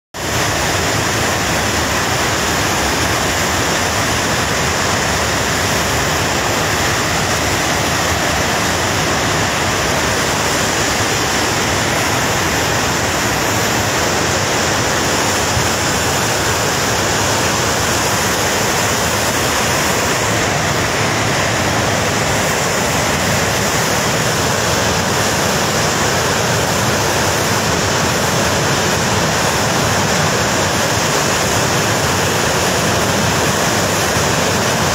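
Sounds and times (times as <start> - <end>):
flood water rushing: 0.2 - 34.9.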